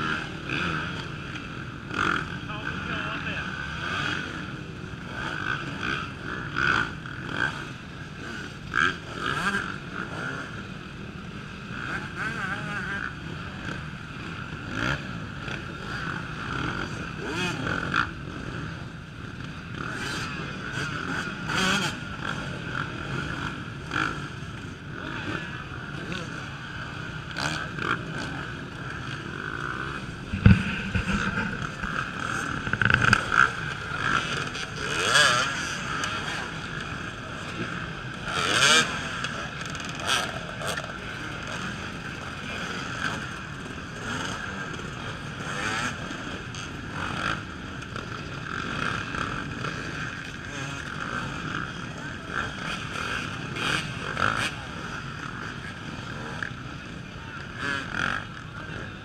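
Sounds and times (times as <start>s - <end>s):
motorbikes running steadily: 0.0s - 59.0s
motorcycle engines revving: 0.0s - 59.0s.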